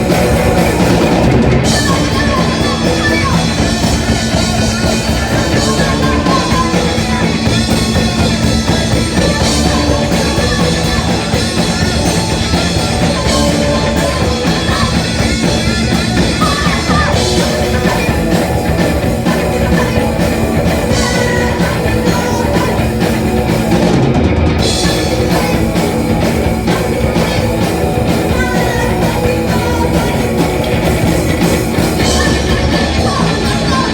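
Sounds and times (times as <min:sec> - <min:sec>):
person singing: 0:00.0 - 0:23.9, 0:24.6 - 0:33.9
punk band playing live: 0:00.0 - 0:33.9.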